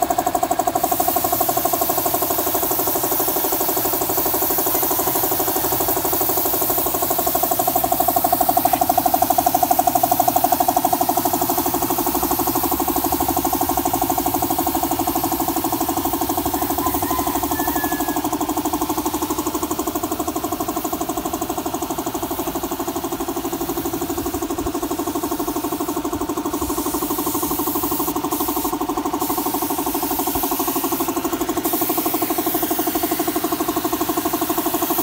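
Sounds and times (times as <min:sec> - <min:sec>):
air compressor pulsing drone: 0:00.0 - 0:35.0
paint spray gun hissing: 0:00.0 - 0:35.0.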